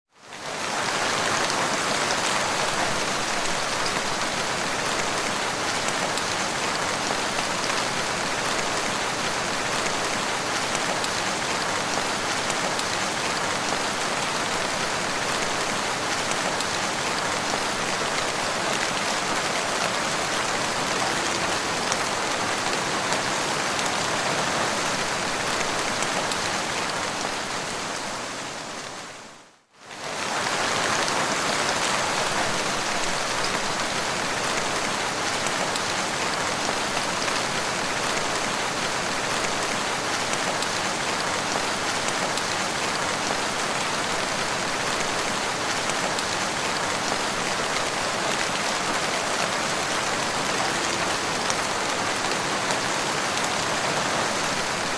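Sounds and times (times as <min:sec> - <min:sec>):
rain pattering on ground: 0:00.2 - 0:28.3, 0:29.9 - 0:54.9.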